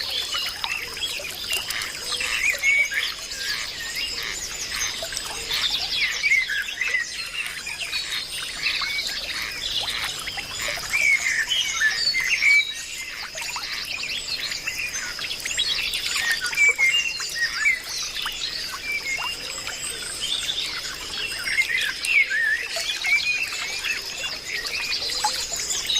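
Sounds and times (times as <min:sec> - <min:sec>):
birds chirping and calling: 0:00.0 - 0:25.9.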